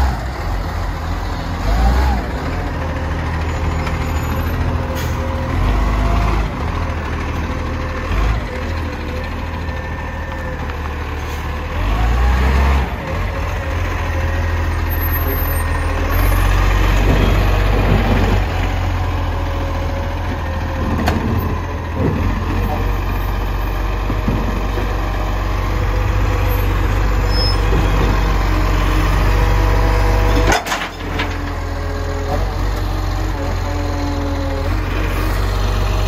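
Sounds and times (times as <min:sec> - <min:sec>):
garbage truck engine running: 0:00.0 - 0:36.0.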